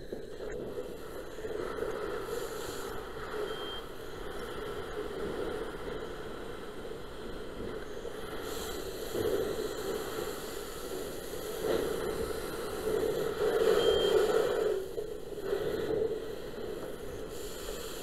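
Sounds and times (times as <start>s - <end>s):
fire hose spraying water: 1.0s - 18.0s.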